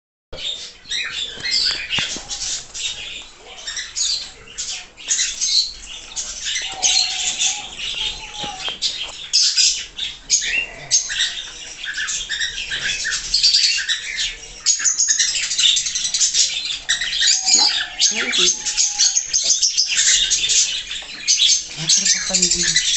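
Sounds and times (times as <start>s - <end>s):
small birds chirping: 0.4s - 22.9s.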